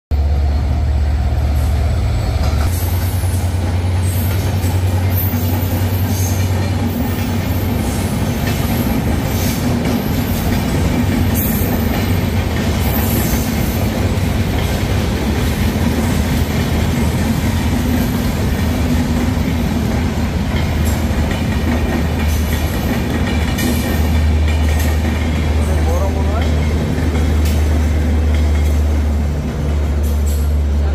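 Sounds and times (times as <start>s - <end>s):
locomotive engine droning: 0.1s - 30.9s
train wheels clacking over rail joints: 2.4s - 30.7s.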